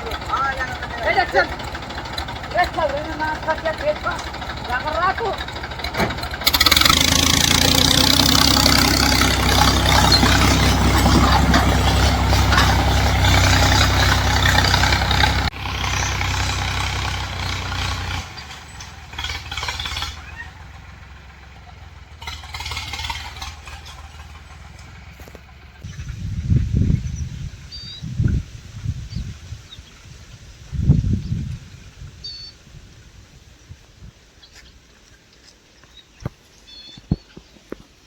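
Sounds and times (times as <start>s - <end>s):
tractor engine running: 0.0s - 32.2s.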